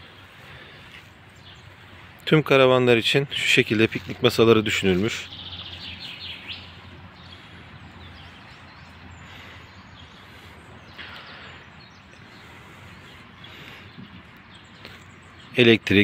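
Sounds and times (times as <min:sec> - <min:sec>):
distant road traffic: 0:00.0 - 0:16.0.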